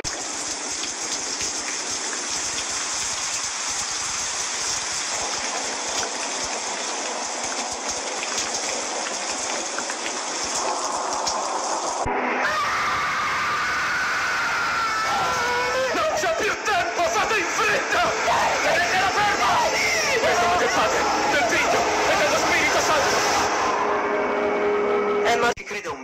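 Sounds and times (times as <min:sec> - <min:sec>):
steady rain hiss: 0:00.0 - 0:12.1, 0:14.3 - 0:23.7.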